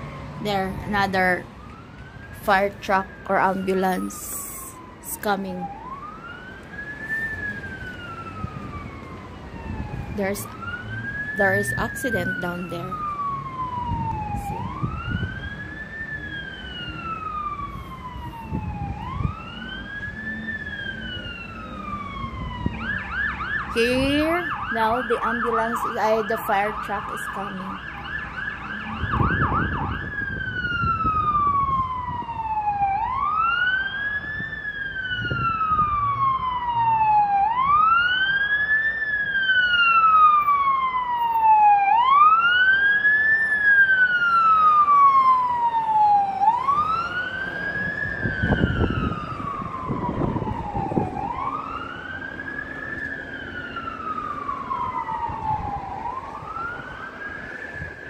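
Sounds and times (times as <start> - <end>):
fire truck siren: 0.0 - 58.0.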